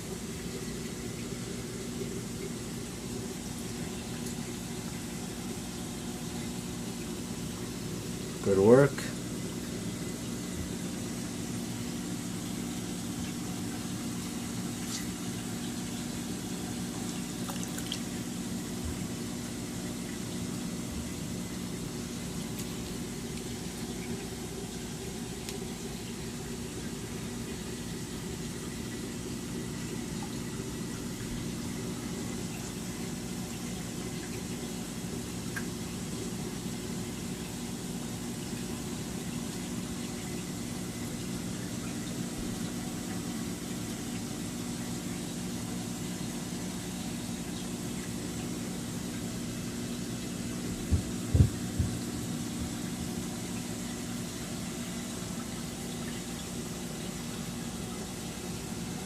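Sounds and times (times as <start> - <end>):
aquarium pumps humming: 0.0 - 59.0.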